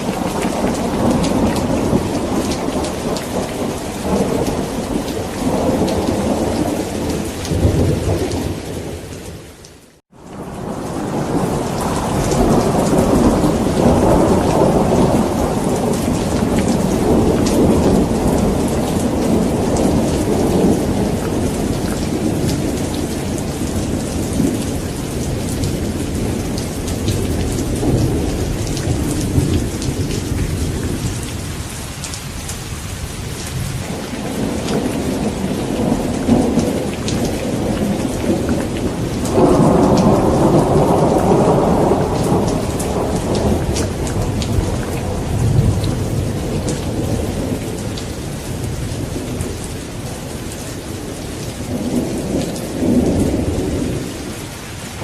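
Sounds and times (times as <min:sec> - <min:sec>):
rolling thunder: 0:00.0 - 0:09.4, 0:10.2 - 0:32.0, 0:32.7 - 0:55.0
heavy rain pattering: 0:00.0 - 0:55.0.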